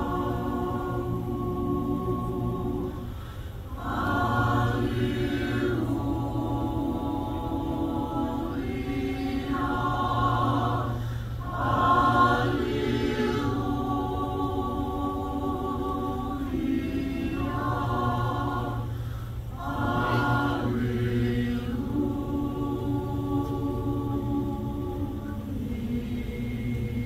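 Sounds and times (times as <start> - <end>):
mixed choir singing a cappella: 0.0 - 27.0.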